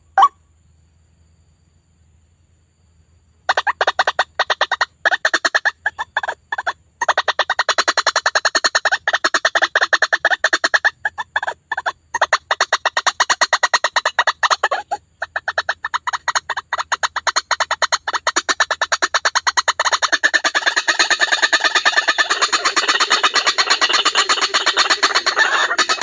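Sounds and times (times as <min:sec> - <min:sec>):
harsh repeated bird calls: 0:03.5 - 0:26.0.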